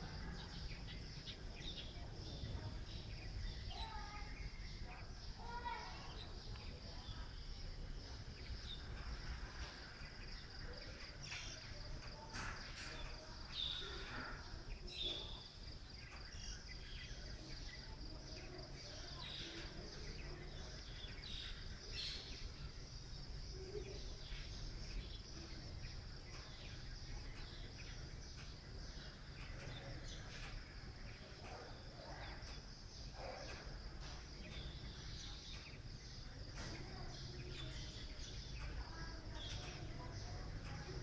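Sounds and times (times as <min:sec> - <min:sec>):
bird chirps and calls: 0:00.0 - 0:41.0.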